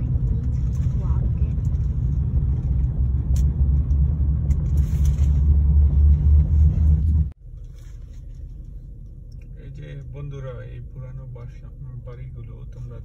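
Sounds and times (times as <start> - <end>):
car cabin driving rumble: 0.0 - 13.0.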